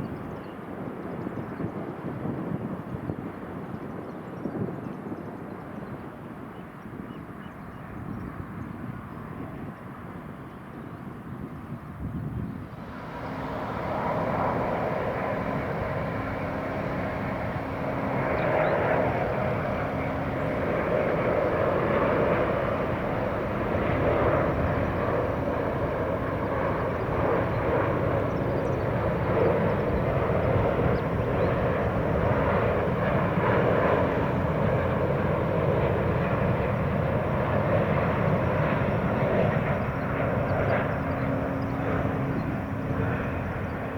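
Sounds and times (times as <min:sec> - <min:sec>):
jet engine noise: 0:00.0 - 0:43.9.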